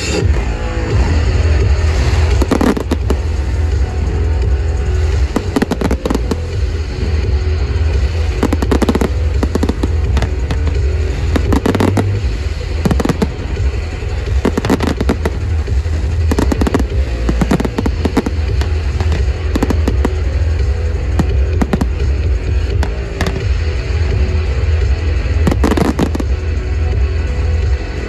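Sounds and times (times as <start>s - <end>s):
fireworks bursting and crackling: 0.0s - 27.8s
loud music: 0.0s - 28.0s.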